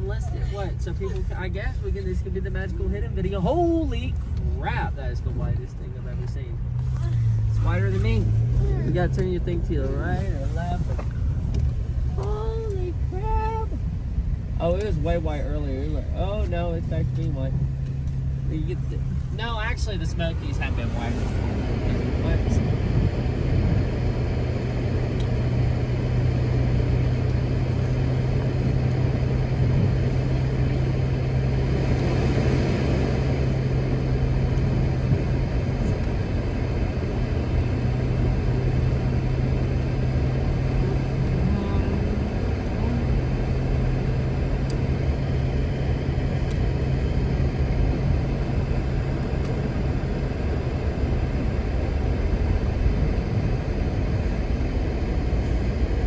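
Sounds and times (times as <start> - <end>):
car engine hum inside cabin: 0.0 - 56.0
tyre and road noise: 0.0 - 56.0.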